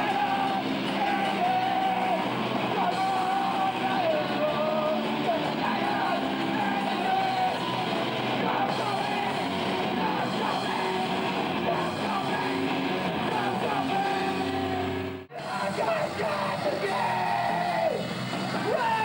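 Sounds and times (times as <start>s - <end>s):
person yelling singing: 0.0s - 18.0s, 18.6s - 19.0s
electric guitar: 0.0s - 19.0s
live punk rock band: 0.0s - 19.0s.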